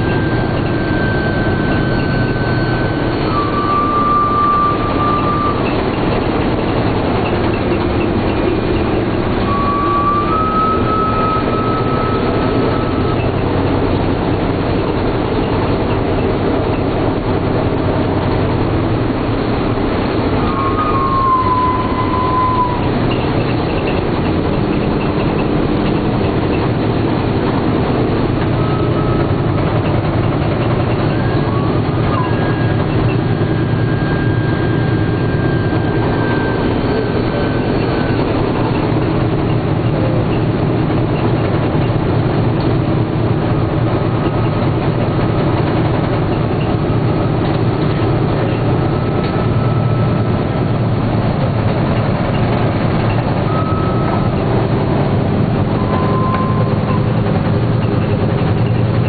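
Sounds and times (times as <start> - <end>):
radial engines droning: 0.0 - 59.0.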